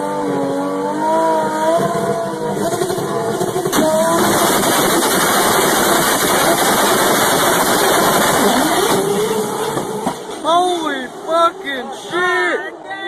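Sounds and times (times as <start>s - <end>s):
drag car accelerating: 0.0s - 12.1s.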